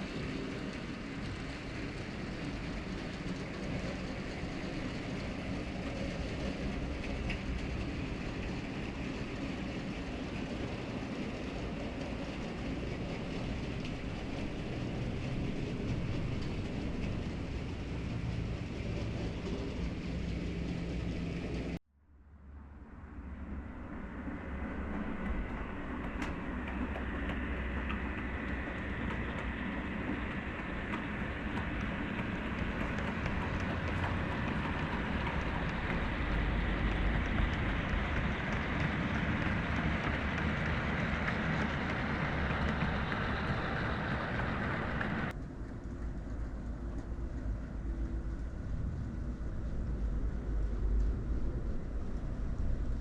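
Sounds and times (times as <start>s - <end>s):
model train rumbling on track: 0.0s - 21.8s, 23.9s - 53.0s
wheels clicking over rail joints: 0.0s - 21.8s, 24.7s - 49.1s.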